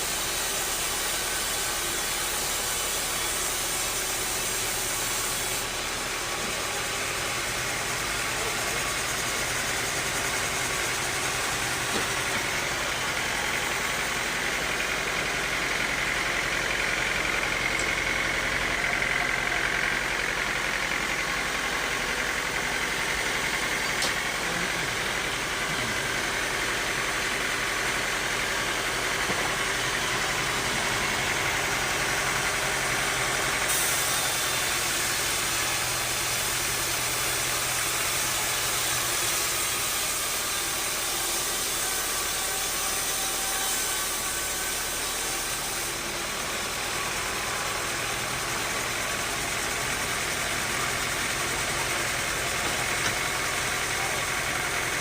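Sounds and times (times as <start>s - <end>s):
bandsaw running: 0.0s - 55.0s.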